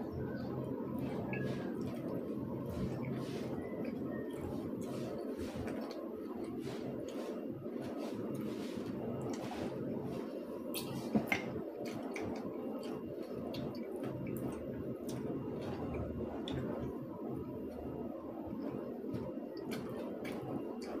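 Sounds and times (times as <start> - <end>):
steady low hum: 0.0 - 21.0
wet chewing and smacking: 0.1 - 21.0.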